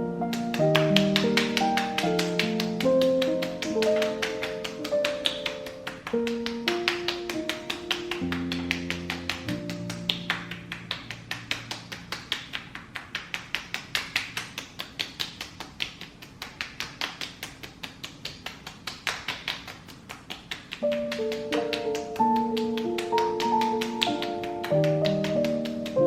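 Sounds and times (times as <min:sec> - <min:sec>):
fingertips tapping on skin: 0:00.3 - 0:26.0.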